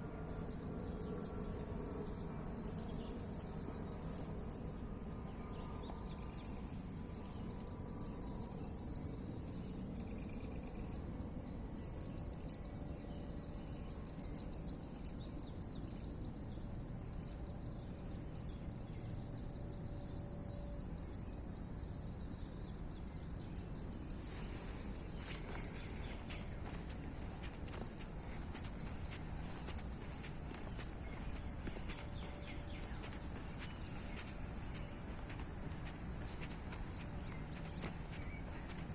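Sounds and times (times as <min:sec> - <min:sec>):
low background hum: 0:00.0 - 0:38.9.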